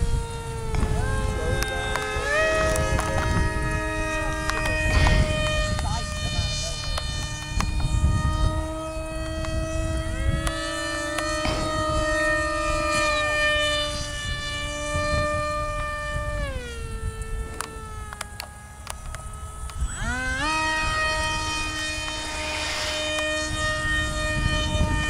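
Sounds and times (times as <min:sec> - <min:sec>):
model plane motors whining: 0:00.0 - 0:25.0
wind rumble on microphone: 0:00.0 - 0:25.0.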